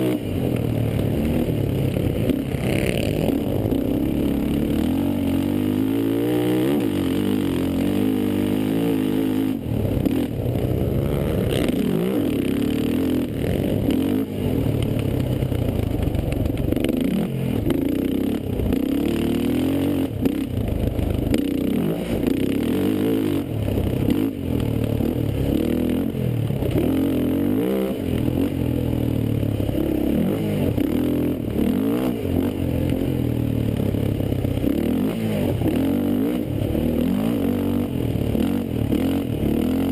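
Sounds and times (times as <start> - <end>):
racing quad engines revving: 0.0 - 15.5, 16.2 - 20.6, 21.2 - 39.9.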